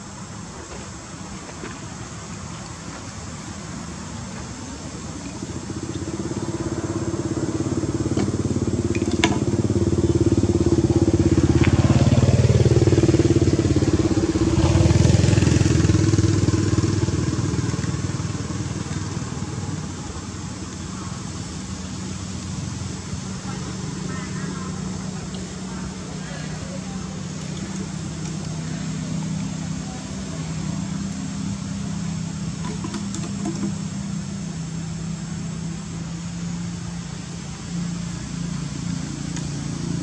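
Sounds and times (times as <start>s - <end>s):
vehicle engine passing: 1.7s - 40.0s.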